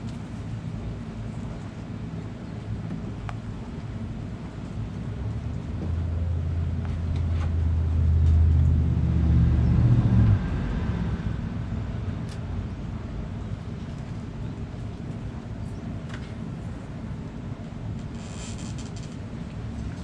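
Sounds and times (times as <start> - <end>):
motor vehicle engine hum: 0.0 - 20.0
steady outdoor noise: 0.0 - 20.0.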